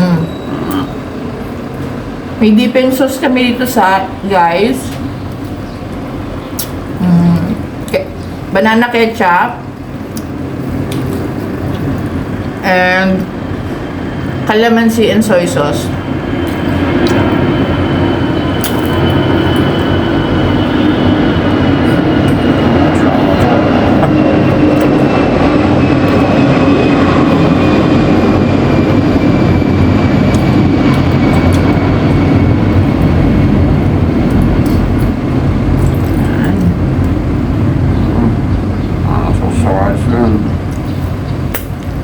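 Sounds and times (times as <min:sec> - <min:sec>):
loud steady rumbling: 0:00.0 - 0:42.0.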